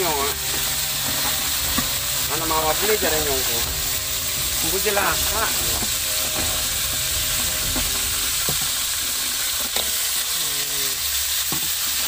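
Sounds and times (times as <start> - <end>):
crabs sizzling in oil: 0.0 - 12.0.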